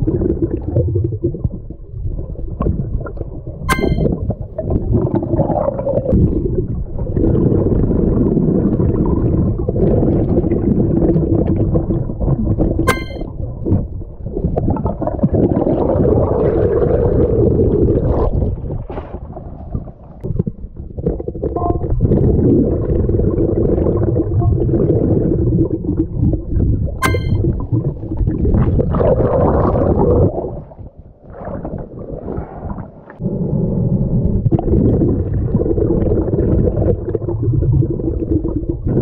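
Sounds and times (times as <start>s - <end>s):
underwater rumble and gurgle: 0.0s - 39.0s.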